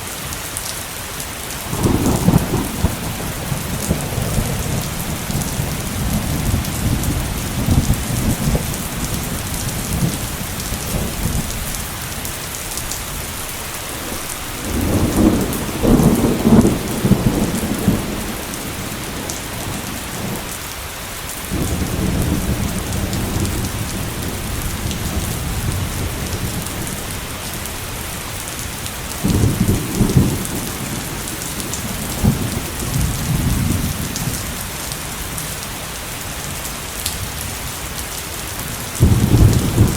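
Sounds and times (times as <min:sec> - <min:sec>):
heavy rain falling: 0:00.0 - 0:39.9
thunder rumbling: 0:01.4 - 0:20.6, 0:21.5 - 0:35.5, 0:38.7 - 0:39.9.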